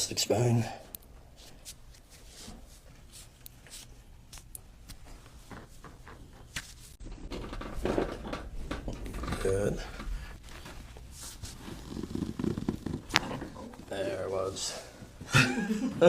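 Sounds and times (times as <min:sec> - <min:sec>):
soft handling sounds: 0:00.3 - 0:07.0, 0:08.9 - 0:15.3.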